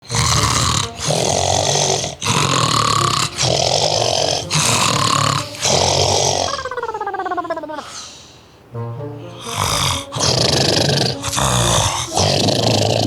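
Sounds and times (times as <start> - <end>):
loud snoring: 0.0 - 7.0, 9.4 - 13.0.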